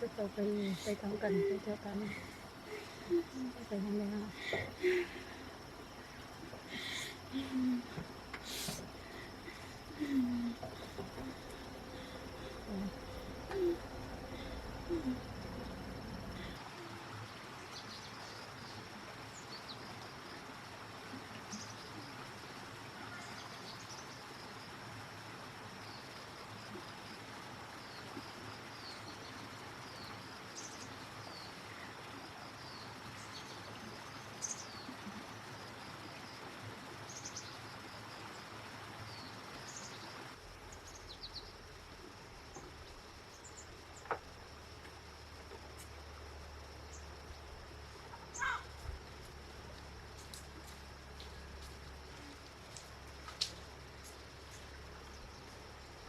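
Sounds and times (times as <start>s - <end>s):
high insect drone: 0.0s - 18.7s, 22.9s - 56.0s
background hiss: 0.0s - 56.0s.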